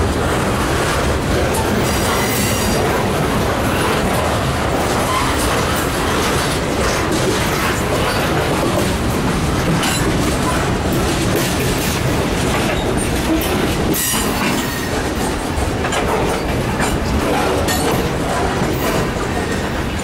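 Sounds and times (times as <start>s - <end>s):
clacks over rail joints: 0.0s - 20.0s
train wheels rumbling on rails: 0.0s - 20.0s.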